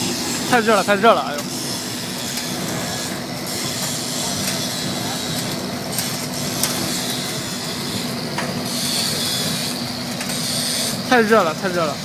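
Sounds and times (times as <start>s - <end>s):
burner flame and blower rushing: 0.0s - 12.0s
constant low hum: 0.0s - 12.0s.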